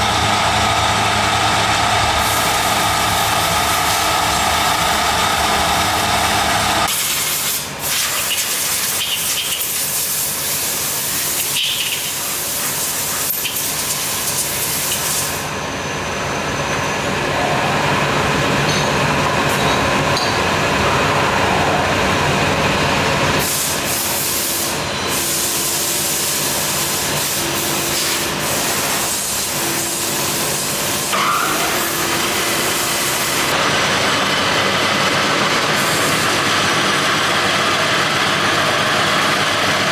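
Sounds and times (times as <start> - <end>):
factory machinery noise: 0.0 - 39.9.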